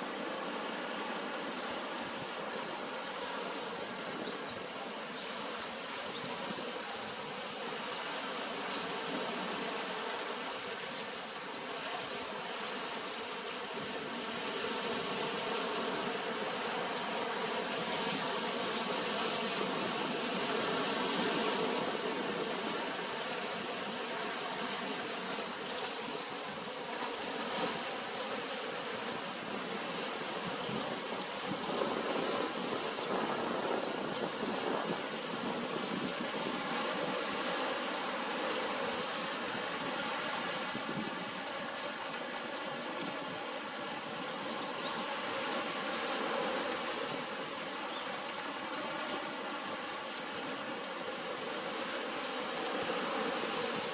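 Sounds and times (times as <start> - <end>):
surf washing onto beach: 0.0 - 53.9.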